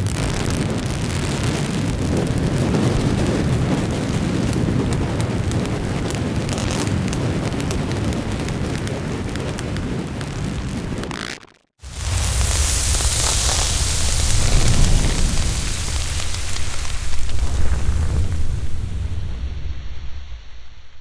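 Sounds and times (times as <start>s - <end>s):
dense rumbling texture: 0.0s - 11.2s, 11.8s - 21.0s
fine crackles: 0.0s - 19.5s.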